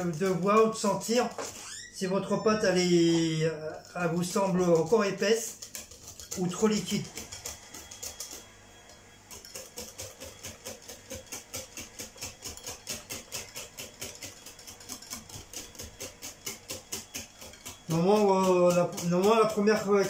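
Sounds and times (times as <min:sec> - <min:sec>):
whisk clicking against bowl: 0:00.0 - 0:01.6, 0:03.8 - 0:08.5, 0:09.2 - 0:20.0.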